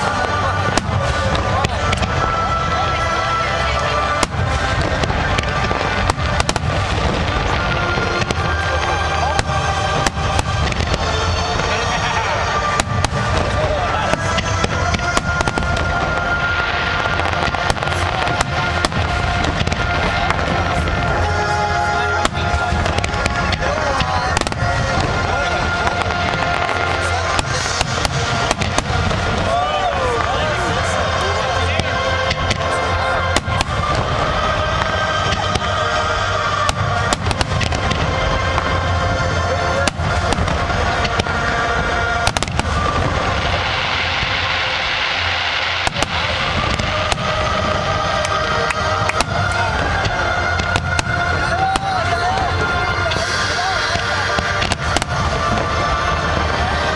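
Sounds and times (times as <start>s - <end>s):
fireworks bangs and crackles: 0.0s - 56.9s
music playing: 0.0s - 56.9s.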